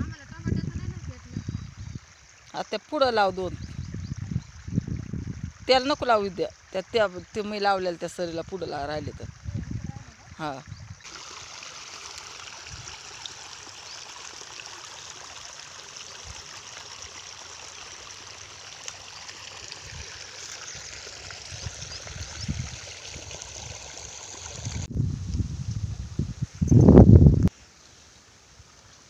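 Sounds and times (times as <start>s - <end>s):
water trickling: 0.0s - 27.1s.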